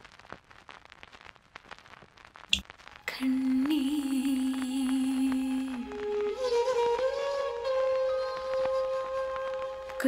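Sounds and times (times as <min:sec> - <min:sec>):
faint crackle: 0:00.0 - 0:10.0.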